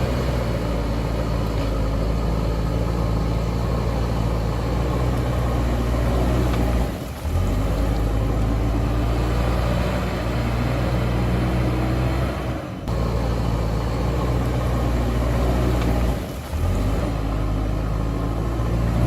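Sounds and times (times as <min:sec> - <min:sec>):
diesel engine running under work: 0:00.0 - 0:19.0.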